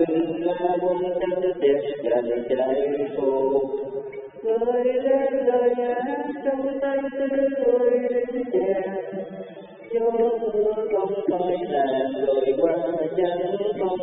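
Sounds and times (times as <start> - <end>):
person singing: 0.0 - 3.8, 4.4 - 14.0.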